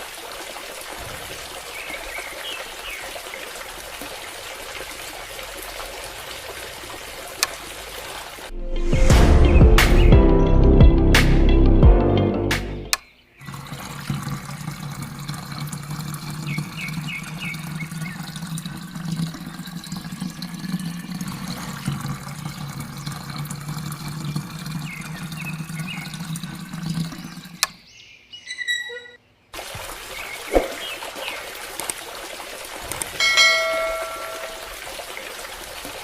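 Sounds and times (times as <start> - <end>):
water pouring and trickling: 0.0 - 8.6, 13.4 - 27.8, 28.5 - 36.0.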